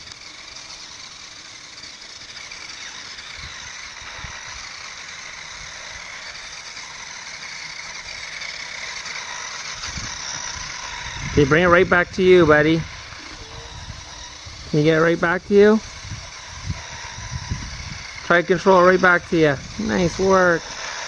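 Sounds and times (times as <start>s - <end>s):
toy snowmobile high whine: 0.0s - 21.0s.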